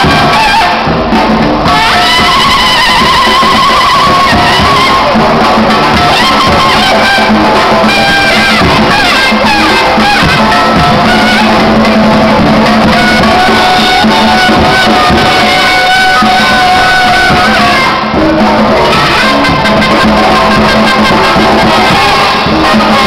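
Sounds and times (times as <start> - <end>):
brass band playing loudly: 0.0 - 23.0.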